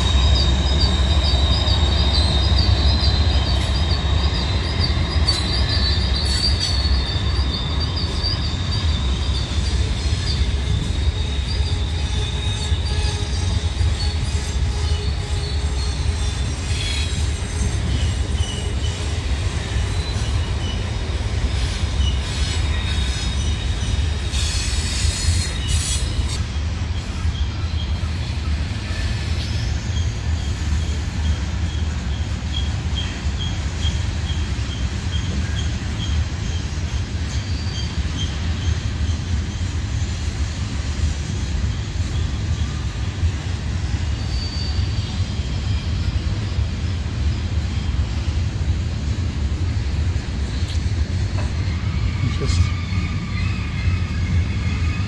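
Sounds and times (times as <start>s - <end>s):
wheel flanges squealing: 0.0s - 49.0s, 49.7s - 55.0s
train wheels rumbling on rails: 0.0s - 55.0s.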